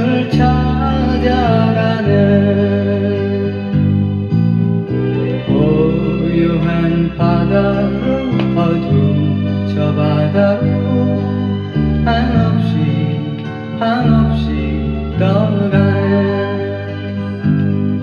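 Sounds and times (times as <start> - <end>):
folk-pop song from vinyl record: 0.0 - 18.0.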